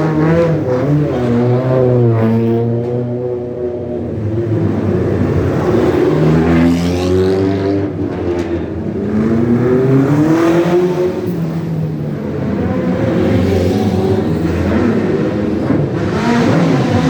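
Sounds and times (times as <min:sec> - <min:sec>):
sports car engines accelerating: 0:00.0 - 0:17.0.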